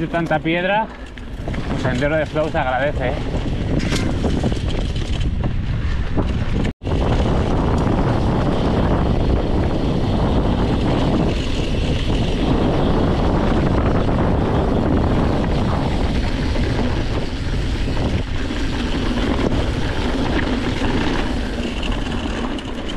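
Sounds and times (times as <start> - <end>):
bike tyres rolling on dirt: 0.0 - 22.9
wind buffeting microphone: 0.0 - 22.9.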